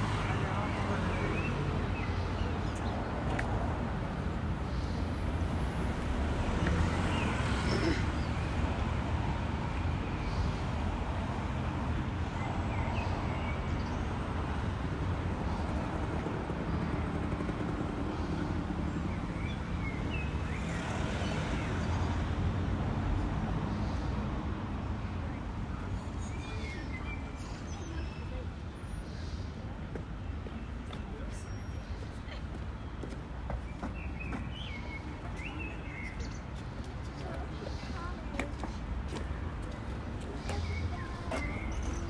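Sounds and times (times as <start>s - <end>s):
faint passers-by voices: 0.0s - 19.2s, 22.6s - 42.0s
traffic rumble: 0.0s - 42.0s.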